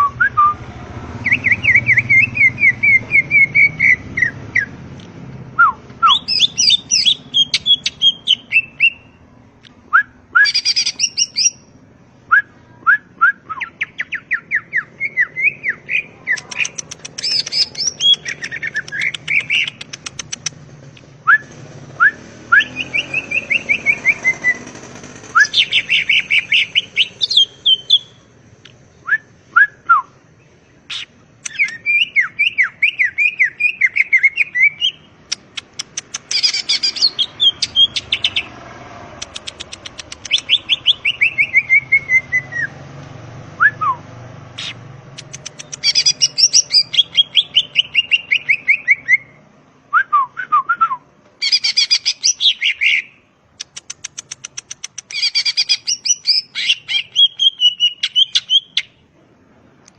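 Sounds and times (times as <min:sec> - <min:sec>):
bird singing trills and whistles: 0:01.2 - 0:04.8, 0:05.6 - 0:09.2, 0:09.9 - 0:11.7, 0:12.3 - 0:20.6, 0:21.2 - 0:28.2, 0:29.0 - 0:38.6, 0:39.3 - 0:42.8, 0:44.6 - 0:49.4, 0:50.1 - 0:59.0.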